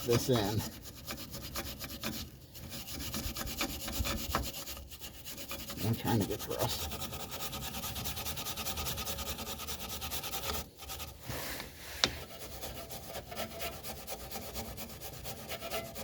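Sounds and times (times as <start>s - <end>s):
scrubbing rust off metal: 0.0s - 16.0s.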